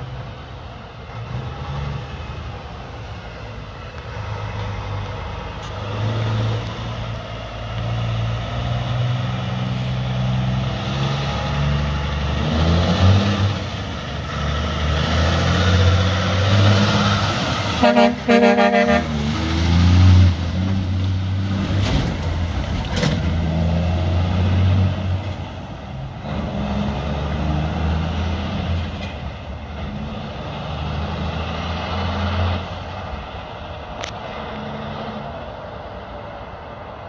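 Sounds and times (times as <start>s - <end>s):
diesel truck engine pulling away: 0.0s - 37.0s.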